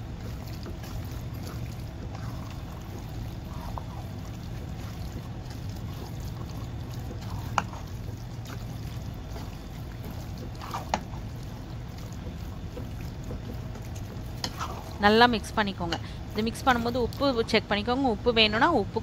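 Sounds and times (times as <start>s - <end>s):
spatula stirring thick sauce: 0.0s - 17.7s
steady low hum: 0.0s - 19.0s.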